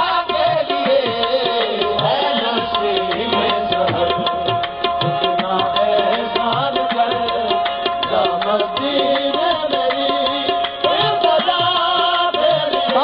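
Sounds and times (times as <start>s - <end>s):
harmonium melody: 0.0s - 13.0s
tabla drumming: 0.0s - 13.0s.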